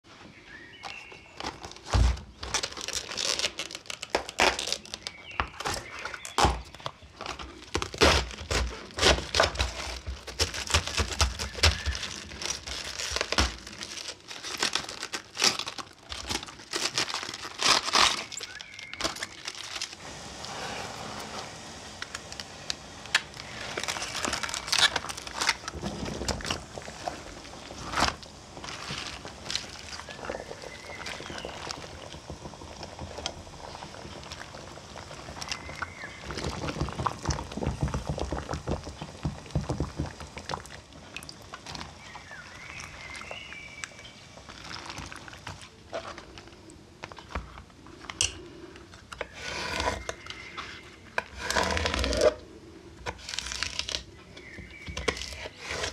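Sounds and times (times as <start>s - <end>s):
cabbage leaves crinkling: 0.1s - 55.9s
water boiling and bubbling: 1.4s - 55.9s.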